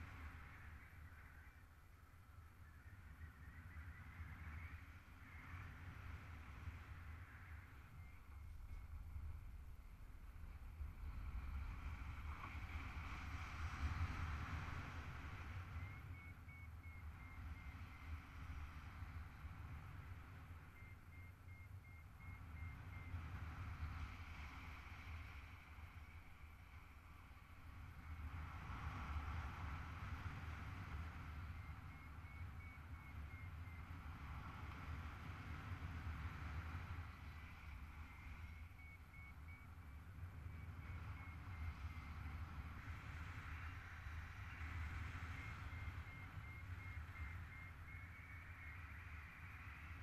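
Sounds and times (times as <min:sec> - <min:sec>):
faint high pulsing tone: 0:00.0 - 0:28.5, 0:29.6 - 0:50.0
wind rushing over microphone: 0:00.0 - 0:50.0.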